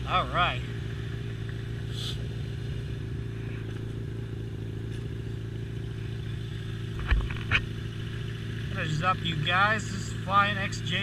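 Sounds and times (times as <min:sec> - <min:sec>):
motorcycle engine droning: 0:00.0 - 0:11.0.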